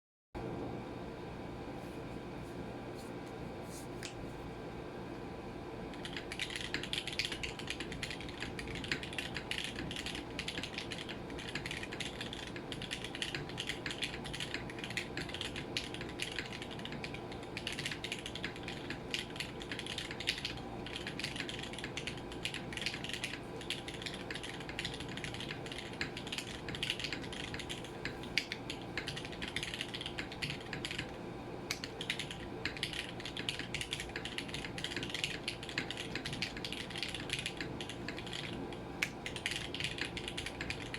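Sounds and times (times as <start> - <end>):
air conditioner humming: 0.4 - 40.9
mechanical keyboard typing: 5.9 - 40.9.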